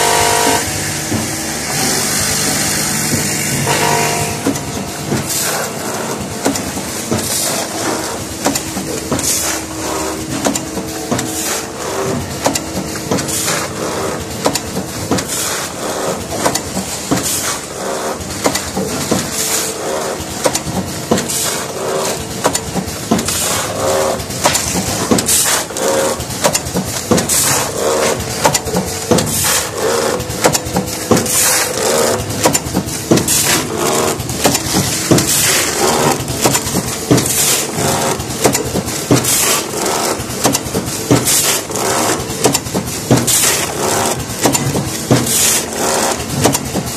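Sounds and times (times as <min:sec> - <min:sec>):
packing machine clattering: 0:00.4 - 0:46.9.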